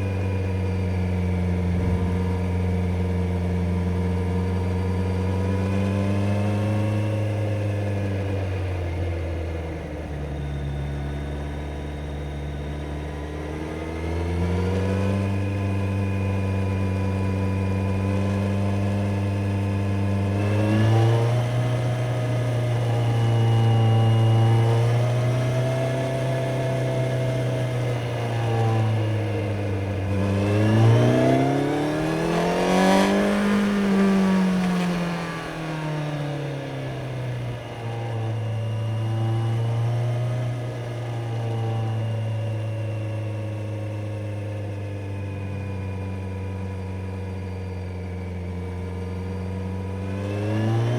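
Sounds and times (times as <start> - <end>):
motorcycle engine revving: 0.0 - 10.4, 12.1 - 50.9.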